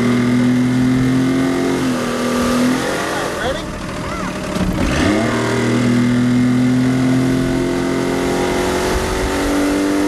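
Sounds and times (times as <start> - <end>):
outboard motor pulling hard: 0.0 - 10.0.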